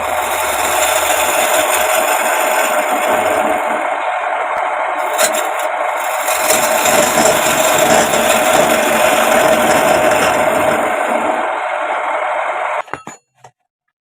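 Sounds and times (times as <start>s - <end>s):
wood lathe humming: 0.0s - 12.8s.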